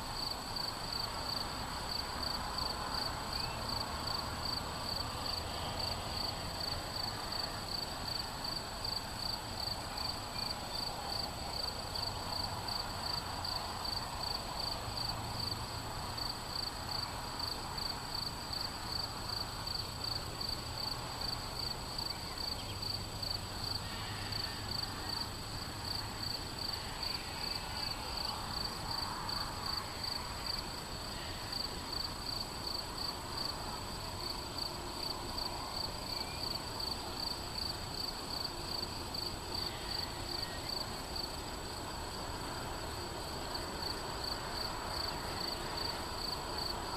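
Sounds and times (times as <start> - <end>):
cricket chirping: 0.1 - 46.9.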